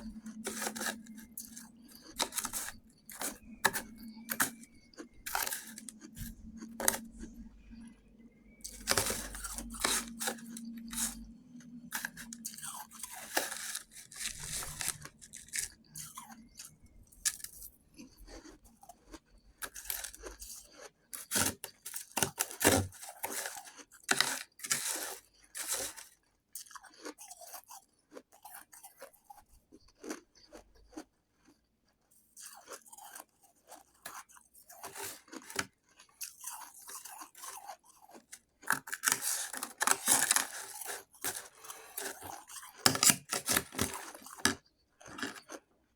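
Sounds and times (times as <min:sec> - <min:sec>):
chewing crunchy ice: 0:00.0 - 0:45.9.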